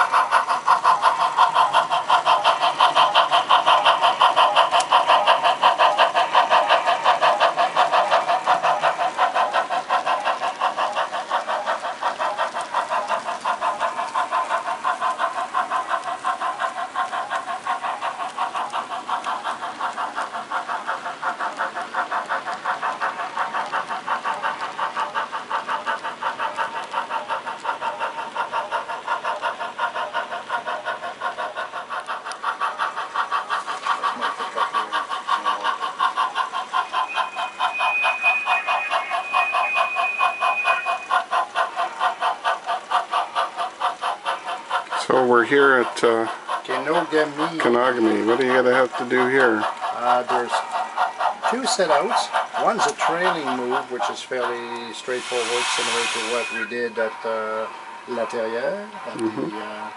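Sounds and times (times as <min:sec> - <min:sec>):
model steam locomotive chuffing: 0:00.0 - 0:59.9.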